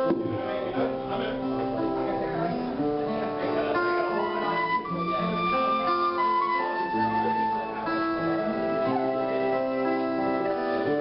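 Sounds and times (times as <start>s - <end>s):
guitar music with held notes: 0.0s - 11.0s.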